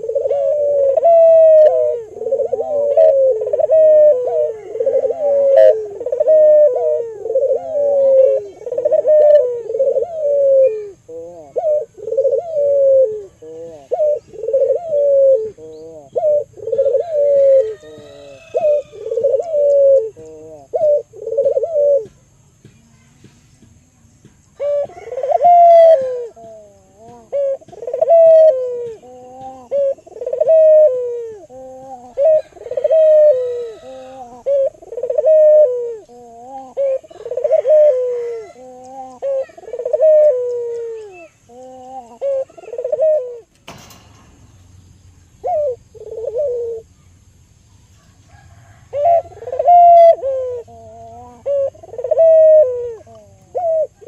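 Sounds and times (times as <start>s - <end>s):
dove cooing: 0.0s - 22.4s, 24.5s - 54.0s.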